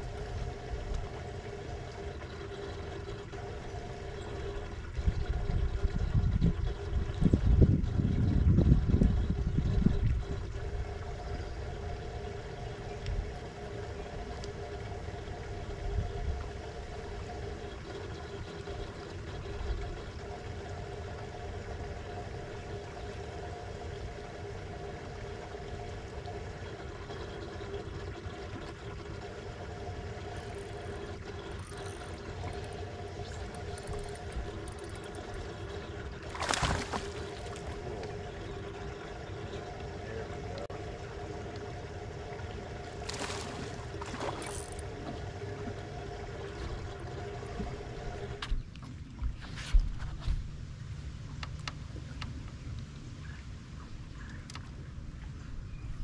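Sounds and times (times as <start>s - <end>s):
electric trolling motor humming: 0.0s - 56.0s
water lapping against hull: 0.0s - 56.0s.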